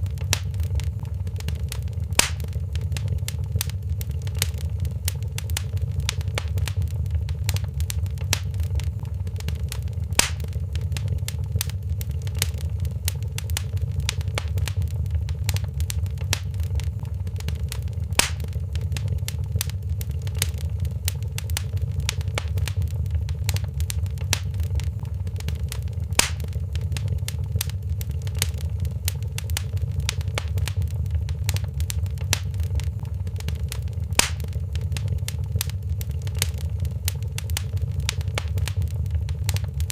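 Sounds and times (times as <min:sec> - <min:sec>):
loud fire pops: 0:00.0 - 0:39.9
low rumble of burning: 0:00.0 - 0:39.9
wood fire crackling: 0:00.0 - 0:39.9.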